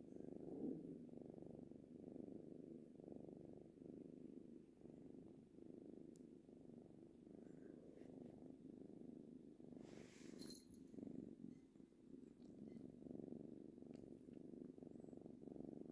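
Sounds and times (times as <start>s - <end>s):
kitten purring: 0.0s - 15.9s.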